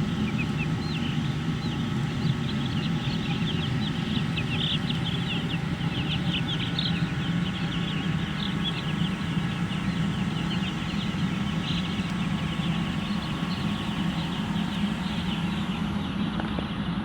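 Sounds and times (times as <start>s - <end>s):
chickens peeping and chattering: 0.0s - 16.7s
steady low hum: 0.0s - 17.0s.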